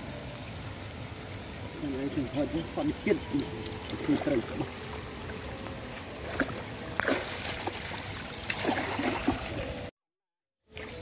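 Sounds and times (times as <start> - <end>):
water trickling and splashing: 0.0 - 9.9.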